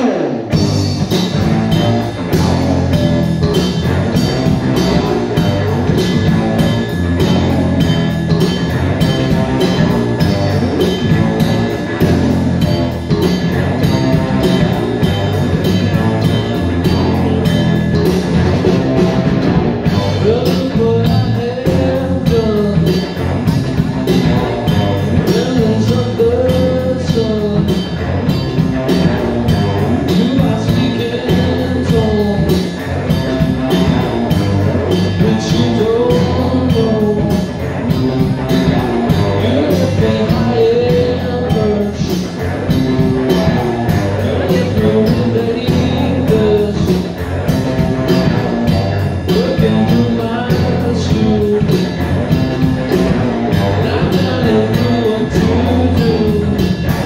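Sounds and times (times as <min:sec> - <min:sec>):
bass guitar: 0:00.0 - 0:57.0
drum kit beat: 0:00.0 - 0:57.0
electric guitar: 0:00.0 - 0:57.0.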